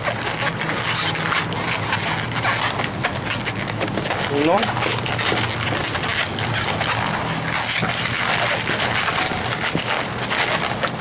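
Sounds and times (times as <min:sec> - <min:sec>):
balloon rubbing and crackling: 0:00.0 - 0:11.0.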